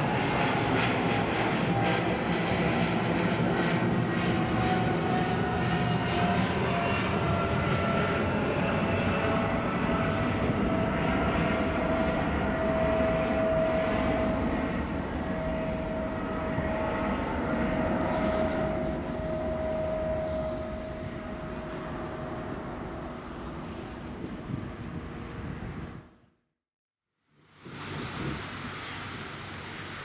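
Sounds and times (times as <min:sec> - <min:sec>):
jet engines rumbling: 0:00.0 - 0:26.2.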